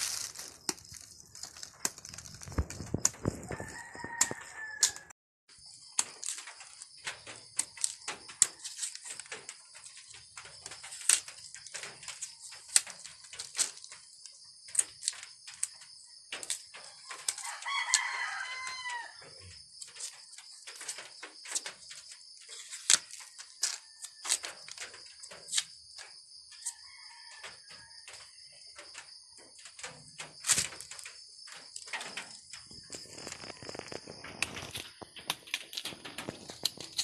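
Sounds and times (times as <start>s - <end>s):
night insects droning: 5.5s - 37.0s.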